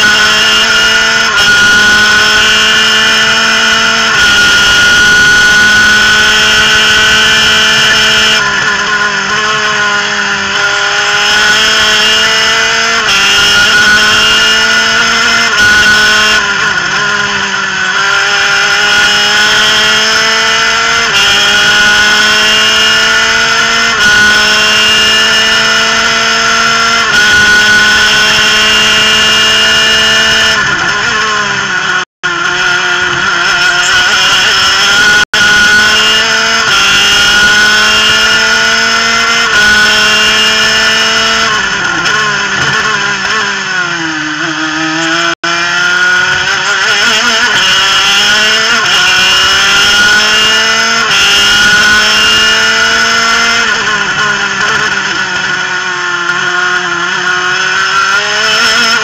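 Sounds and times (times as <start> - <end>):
two-stroke kart engine at full throttle: 0.0 - 59.0.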